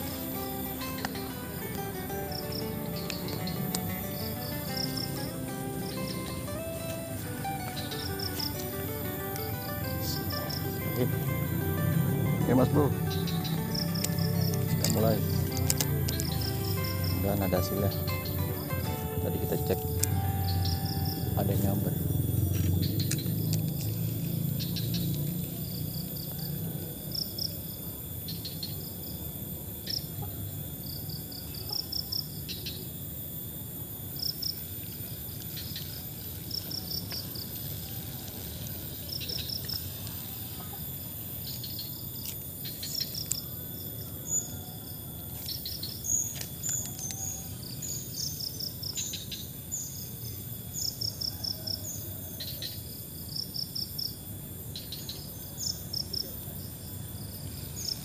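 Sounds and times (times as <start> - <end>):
crickets chirping: 0.0 - 58.0
low outdoor background: 0.0 - 58.0.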